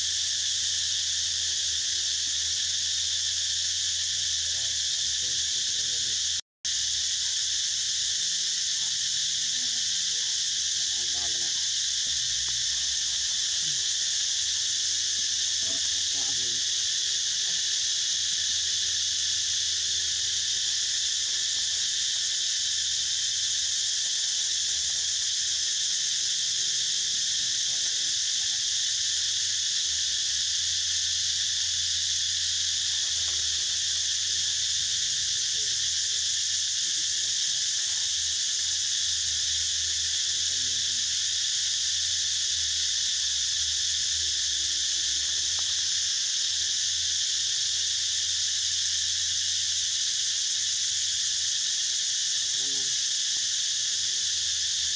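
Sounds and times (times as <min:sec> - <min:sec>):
insects buzzing: 0:00.0 - 0:54.9.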